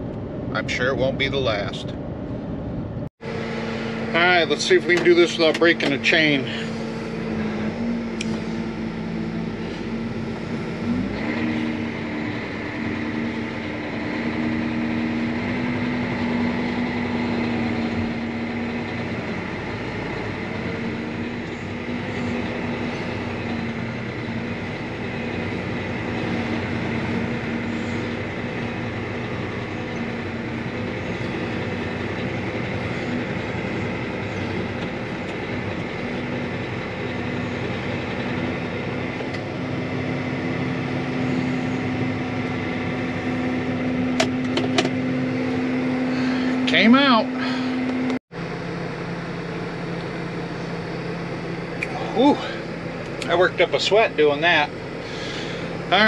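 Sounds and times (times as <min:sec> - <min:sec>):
tractor engine under heavy load: 0:00.0 - 0:56.0.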